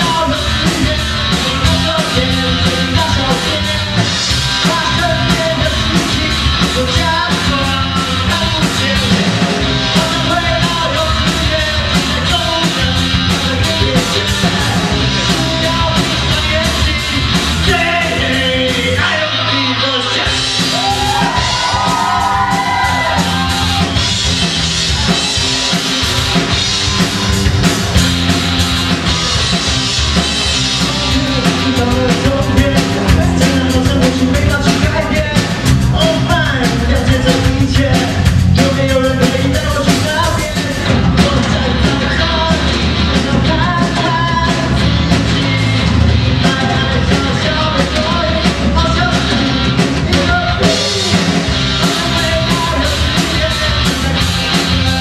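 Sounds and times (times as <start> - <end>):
person singing: 0.0 - 24.0, 30.7 - 55.0
bass guitar: 0.0 - 55.0
drum kit: 0.0 - 55.0
electric guitar: 0.0 - 55.0.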